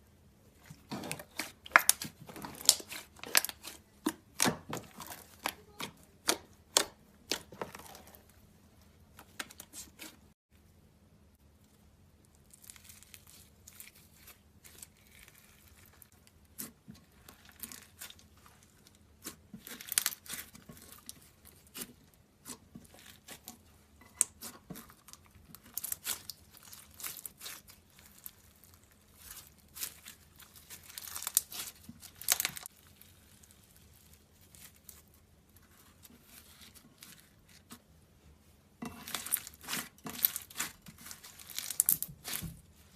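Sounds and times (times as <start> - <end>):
crunchy slime crackling and popping: 0.6 - 8.3, 11.6 - 37.8, 38.8 - 42.9.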